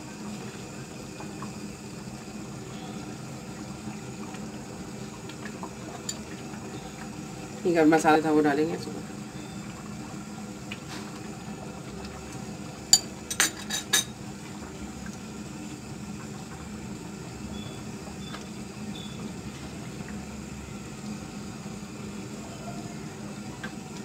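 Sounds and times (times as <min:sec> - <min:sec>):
curry simmering hiss: 0:00.0 - 0:24.0.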